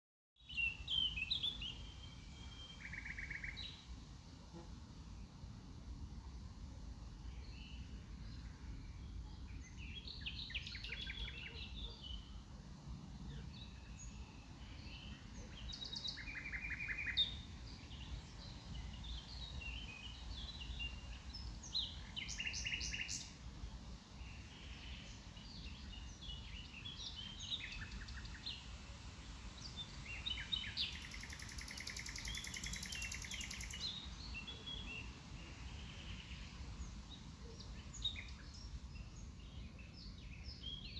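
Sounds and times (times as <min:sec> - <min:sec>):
songbirds chirping and trilling: 0:00.4 - 0:40.9.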